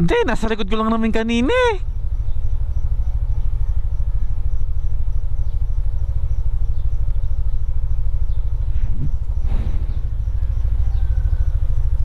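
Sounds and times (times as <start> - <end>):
motor scooter engine idling: 0.0 - 12.0.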